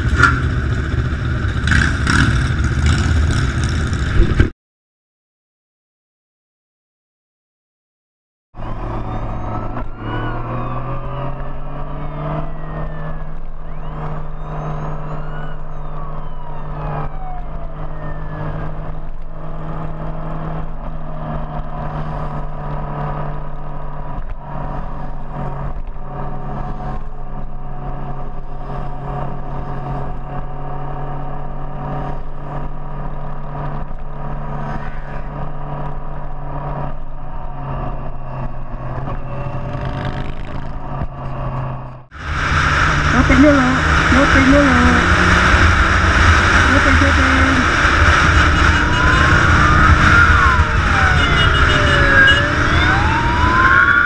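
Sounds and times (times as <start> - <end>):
other engines revving: 0.0 - 4.5, 8.6 - 54.0.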